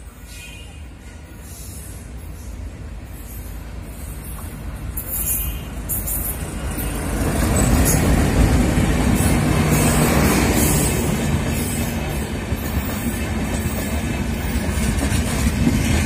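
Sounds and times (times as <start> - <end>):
diesel locomotive passing: 0.0 - 16.0
train wheels running over rails: 1.3 - 16.0.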